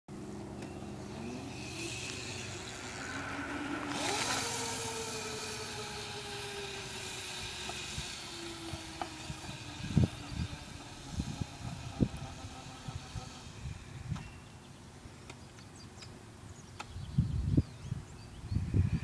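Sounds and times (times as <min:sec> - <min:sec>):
small motorbike engine whine: 0:00.1 - 0:19.0.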